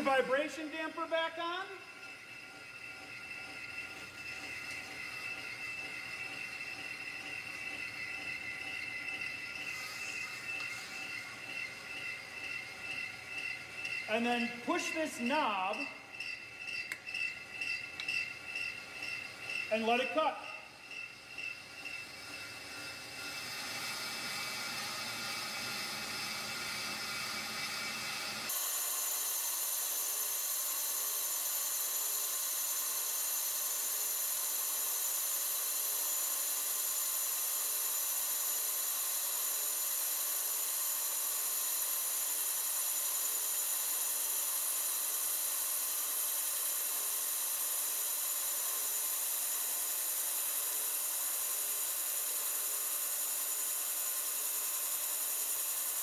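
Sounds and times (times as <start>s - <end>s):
brake lathe cutting metal rotor: 0.0s - 56.0s.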